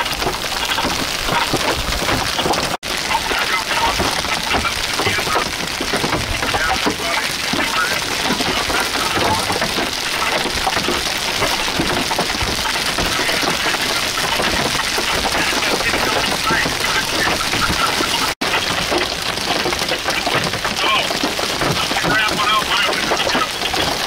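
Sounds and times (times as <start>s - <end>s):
heavy rain and hail pelting: 0.0s - 24.0s.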